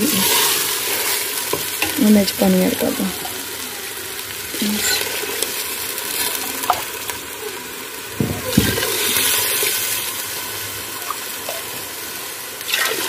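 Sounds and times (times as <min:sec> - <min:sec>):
lentils sizzling: 0:00.0 - 0:13.0.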